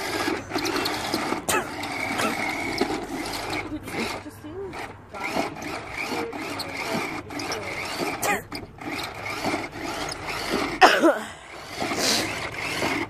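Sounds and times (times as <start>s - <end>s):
toy tank motors whirring: 0.0s - 13.0s.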